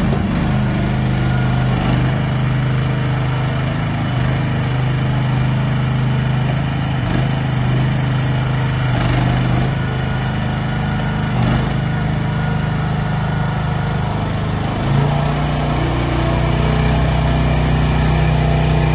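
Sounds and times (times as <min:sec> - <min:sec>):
mini excavator engine running: 0:00.0 - 0:18.9.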